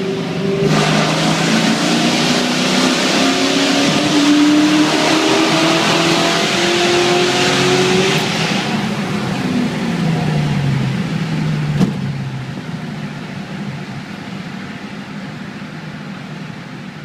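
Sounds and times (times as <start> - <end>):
car exhaust accelerating hard: 0.2 - 13.9.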